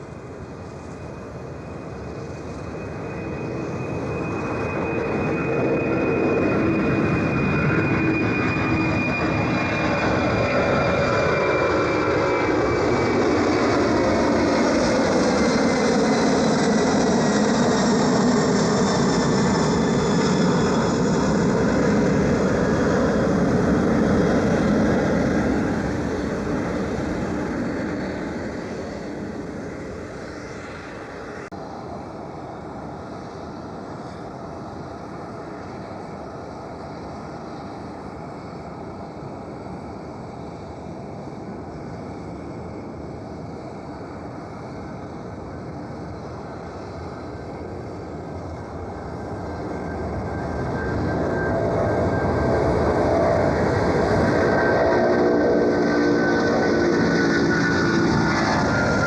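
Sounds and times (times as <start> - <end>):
jet engines passing with whine: 0.0 - 59.0.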